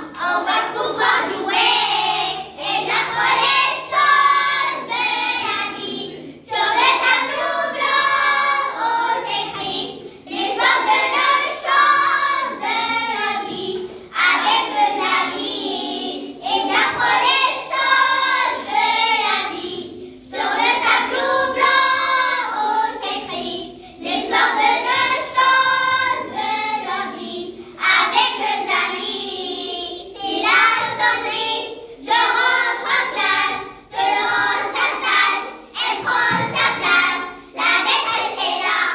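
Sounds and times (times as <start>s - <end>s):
children singing in unison: 0.0s - 38.9s.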